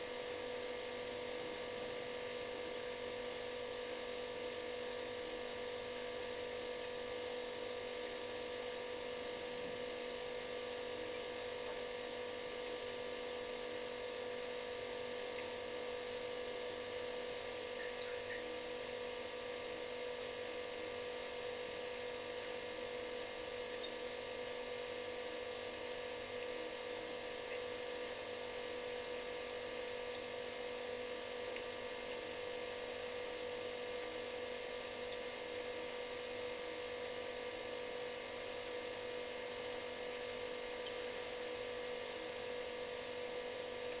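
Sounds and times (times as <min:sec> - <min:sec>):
refrigerator humming: 0:00.0 - 0:44.0.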